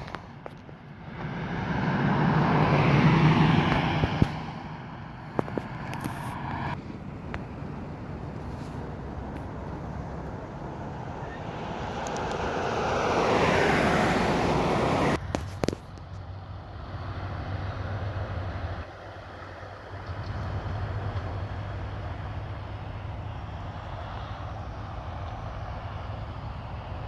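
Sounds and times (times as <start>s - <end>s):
vehicle passing: 0.0s - 15.4s, 16.3s - 27.0s
low hum and road noise: 0.0s - 27.0s.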